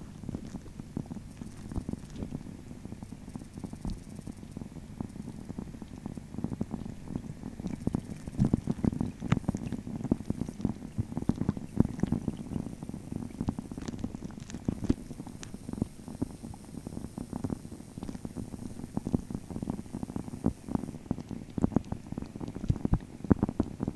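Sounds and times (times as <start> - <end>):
rain on pond heard underwater: 0.0 - 23.9.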